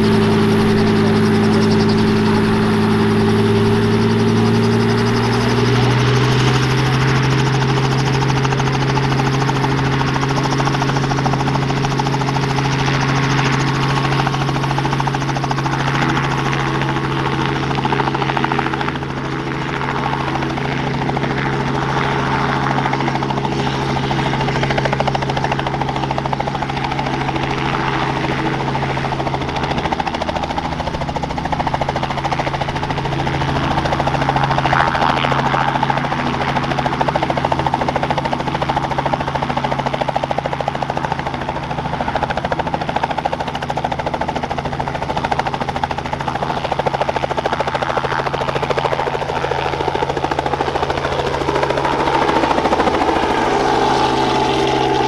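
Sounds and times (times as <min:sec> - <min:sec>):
helicopter engine and rotor hum: 0:00.0 - 0:55.0.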